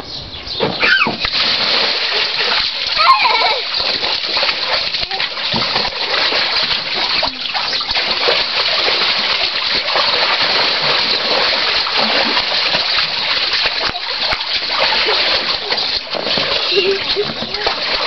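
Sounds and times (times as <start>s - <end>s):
water splashing in paddling pool: 0.6s - 18.0s.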